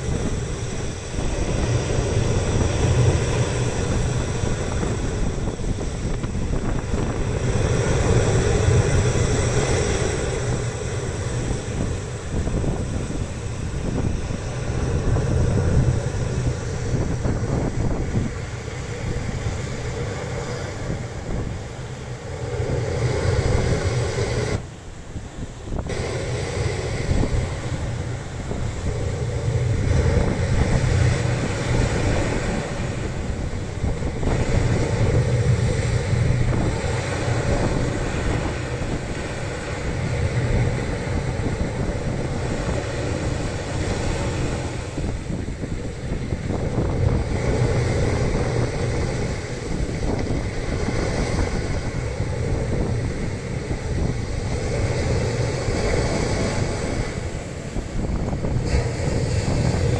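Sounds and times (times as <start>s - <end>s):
sea waves washing on shore: 0.0s - 59.9s
wind buffeting microphone: 0.0s - 59.9s.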